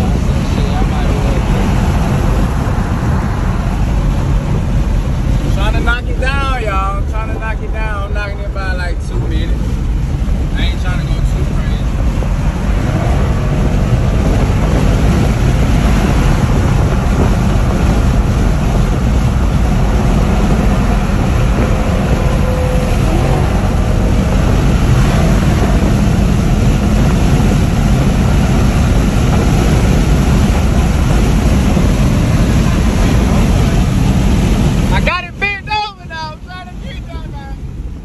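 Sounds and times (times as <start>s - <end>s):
road and wind noise rumble: 0.0s - 38.0s.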